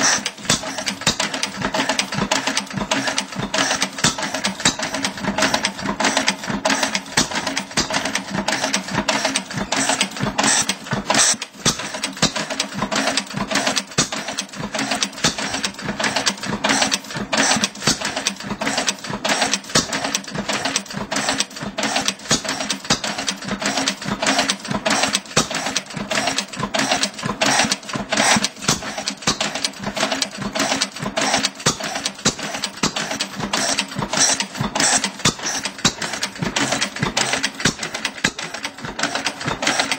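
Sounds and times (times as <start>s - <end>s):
mechanical clatter: 0.0s - 39.9s
stationary engine running: 0.0s - 39.9s.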